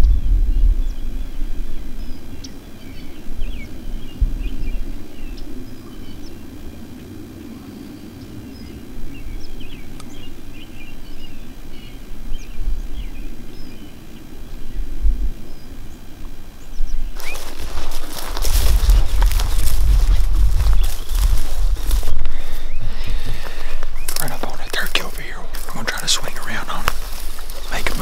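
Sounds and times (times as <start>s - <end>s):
small birds chirping: 0.0s - 28.0s
wind buffeting microphone: 0.0s - 28.0s.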